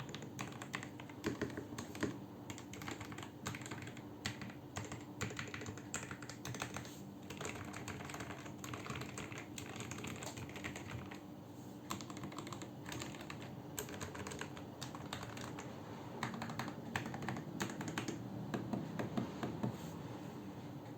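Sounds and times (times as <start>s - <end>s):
mechanical keyboard typing: 0.0s - 11.2s, 11.9s - 19.7s.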